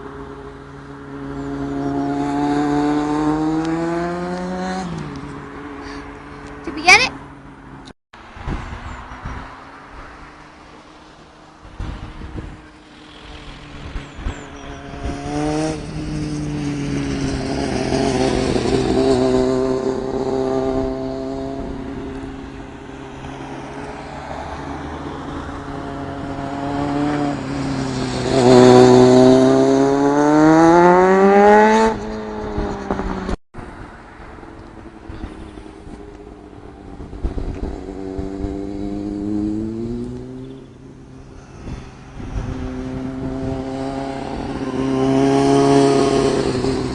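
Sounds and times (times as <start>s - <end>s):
motorcycle engine revving: 0.8s - 7.0s, 11.6s - 33.4s, 35.0s - 46.9s.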